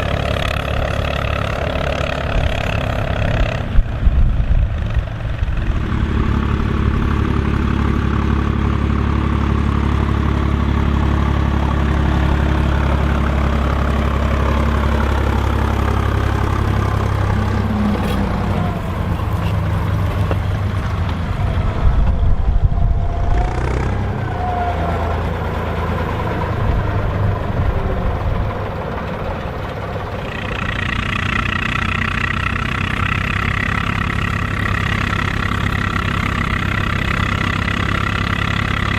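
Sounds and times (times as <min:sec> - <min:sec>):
higher engine tone: 0:00.0 - 0:38.9
tractor diesel engine running: 0:00.0 - 0:38.9.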